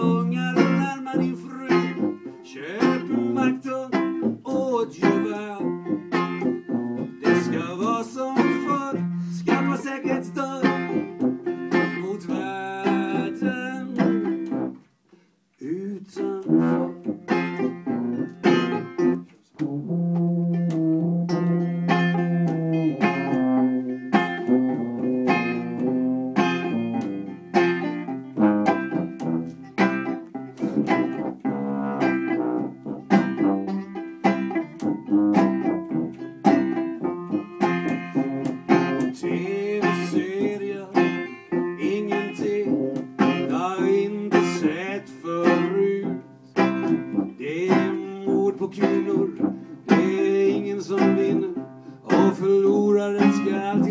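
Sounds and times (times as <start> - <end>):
tuba bass line: 0.0 - 14.8, 16.2 - 53.9
banjo picked and strummed: 0.0 - 14.9, 15.7 - 53.9.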